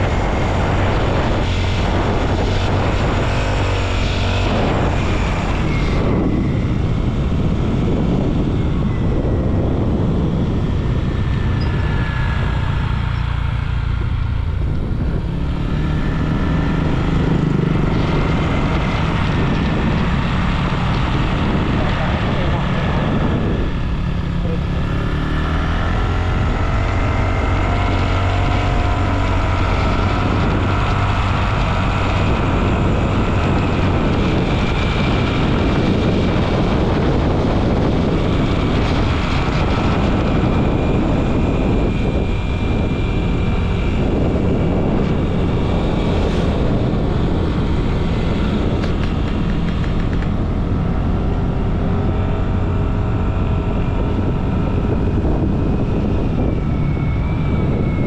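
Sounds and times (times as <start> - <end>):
motorcycle engine running: 0.0 - 58.0
wind rush over microphone: 0.0 - 58.0.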